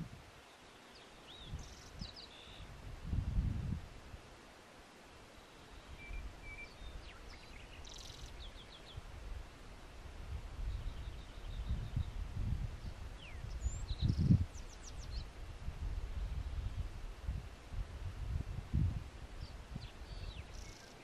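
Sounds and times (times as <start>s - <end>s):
wind on microphone: 0.0s - 0.4s, 1.3s - 4.3s, 6.0s - 21.0s
songbirds chirping: 0.0s - 2.8s, 4.1s - 17.1s, 19.2s - 21.0s.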